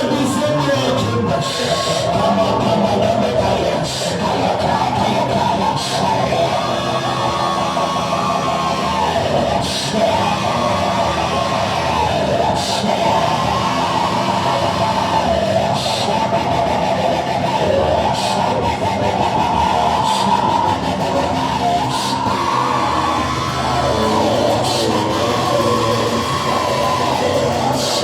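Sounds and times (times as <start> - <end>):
background music: 0.0 - 28.0
congregation praying aloud: 0.0 - 28.0.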